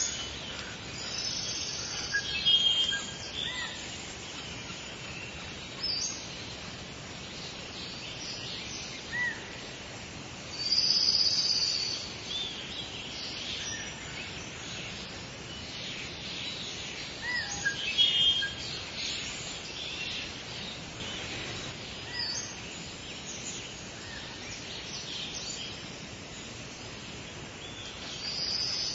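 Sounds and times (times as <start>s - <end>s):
birds singing and calling: 0.0s - 28.9s
outdoor hiss: 0.0s - 28.9s.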